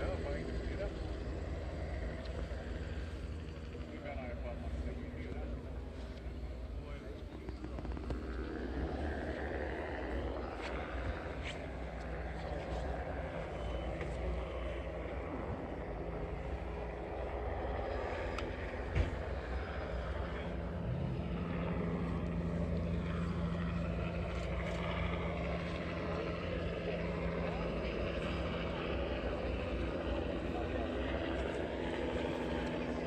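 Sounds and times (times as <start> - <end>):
engine rumbling: 0.0 - 33.0
low hum: 0.0 - 33.0.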